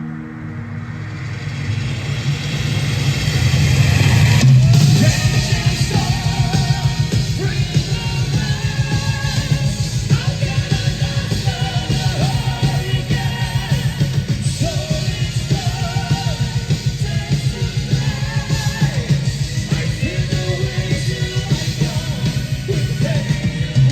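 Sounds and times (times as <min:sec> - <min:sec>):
live metal band playing: 0:00.0 - 0:23.9
fast dense drums: 0:01.2 - 0:23.9.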